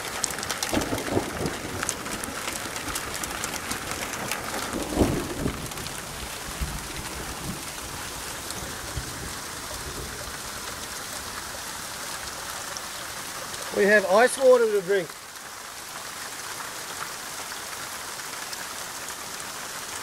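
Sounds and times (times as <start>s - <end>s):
hail and rain striking ground: 0.0s - 20.0s.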